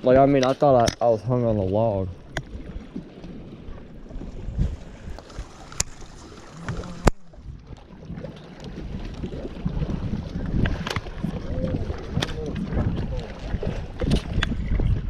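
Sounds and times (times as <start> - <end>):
wind buffeting microphone: 1.2 - 5.5, 6.5 - 15.0.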